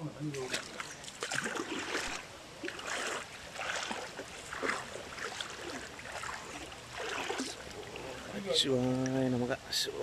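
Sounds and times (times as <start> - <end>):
water splashing and sloshing: 0.1 - 10.0.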